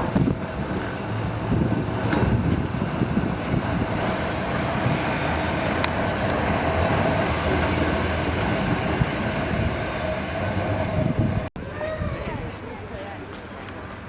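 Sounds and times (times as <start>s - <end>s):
electric tram rumbling: 0.0s - 14.0s.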